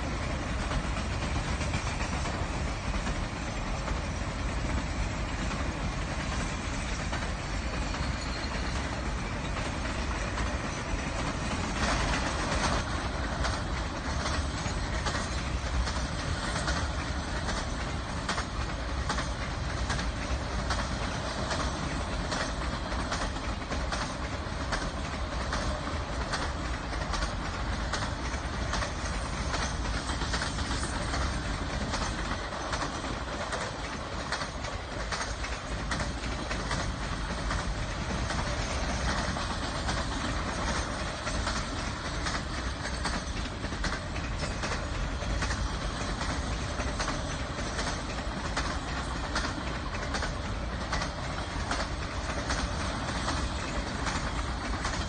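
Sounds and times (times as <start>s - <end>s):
clickety-clack of bogies: 0.0s - 55.0s
train wheels rumbling on rail: 0.0s - 55.0s.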